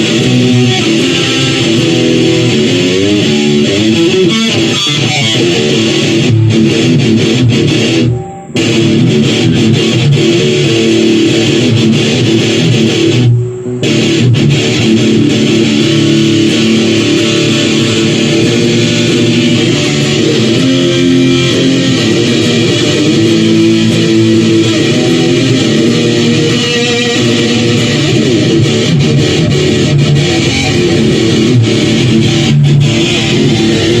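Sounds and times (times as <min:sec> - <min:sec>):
amplified electric guitar: 0:00.0 - 0:34.0
bass guitar playing: 0:00.0 - 0:34.0.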